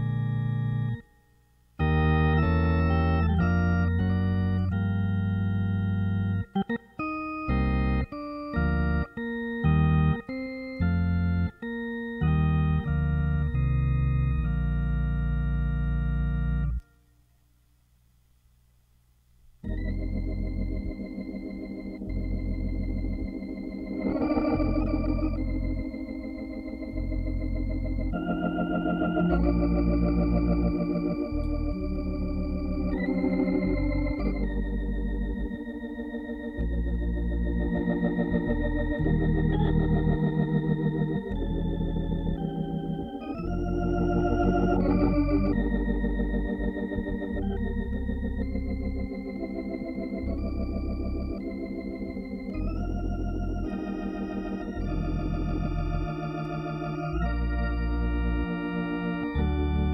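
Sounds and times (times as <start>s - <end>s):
organ chords with vibrato: 0.0s - 17.0s, 19.6s - 59.9s.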